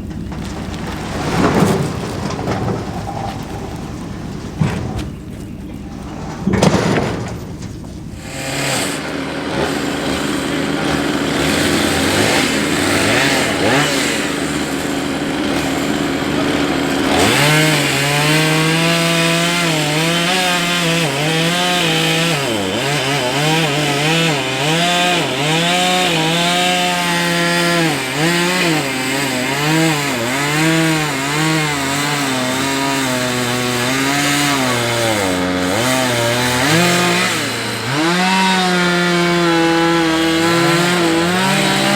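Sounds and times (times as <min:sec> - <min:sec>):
chainsaw cutting wood: 0:06.4 - 0:41.9.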